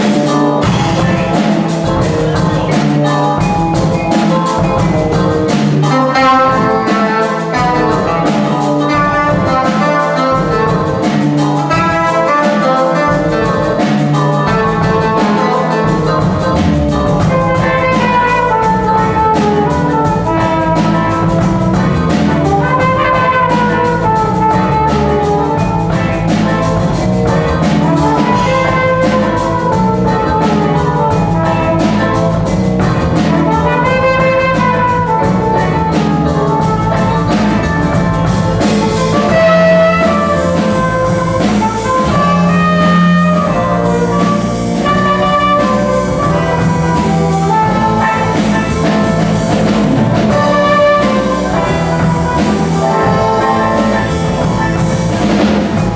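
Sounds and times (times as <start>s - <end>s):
brass melody: 0.0s - 55.9s
jazz band playing live: 0.0s - 55.9s
steady drum beat: 0.0s - 55.9s
walking bass line: 0.0s - 55.9s.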